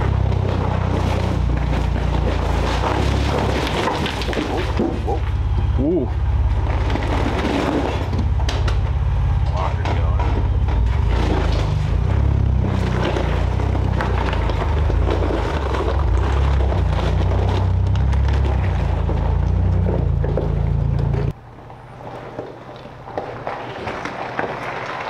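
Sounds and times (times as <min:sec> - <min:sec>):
knocks and rattles: 0:00.0 - 0:21.4
vehicle engine and tyres rumbling: 0:00.0 - 0:25.0.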